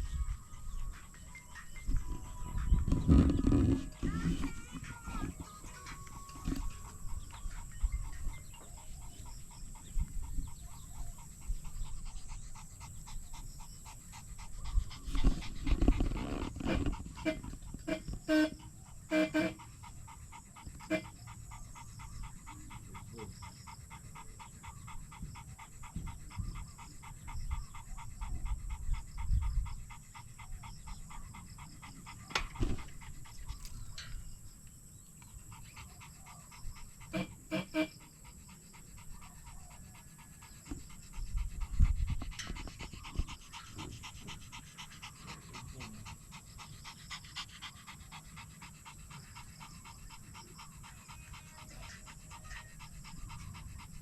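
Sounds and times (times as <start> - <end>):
dog panting: 0.0 - 54.0.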